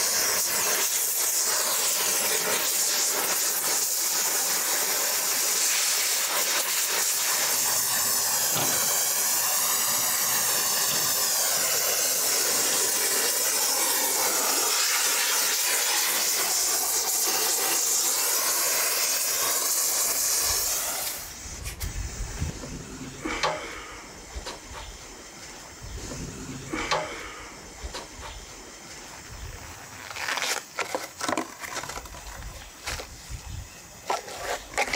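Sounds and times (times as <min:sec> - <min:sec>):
blowtorch flame hissing: 0:00.0 - 0:34.9.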